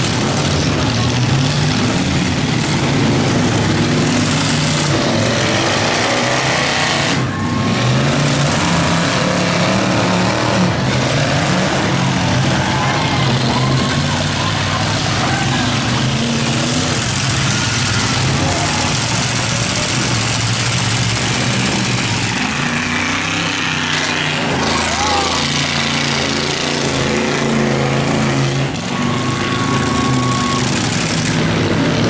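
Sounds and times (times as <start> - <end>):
car engines revving: 0.0 - 32.0
cars pushing into each other: 0.0 - 32.0.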